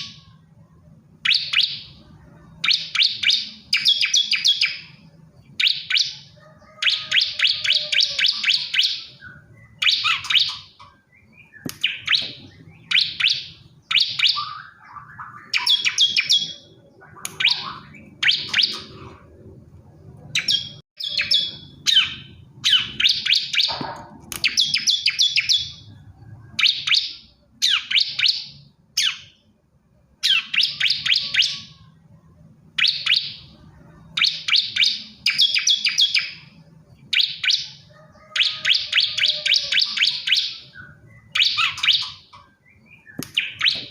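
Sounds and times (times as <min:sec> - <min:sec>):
bird singing ticking trills: 0:01.1 - 0:19.1, 0:20.2 - 0:23.8, 0:24.4 - 0:29.5, 0:32.8 - 0:43.9.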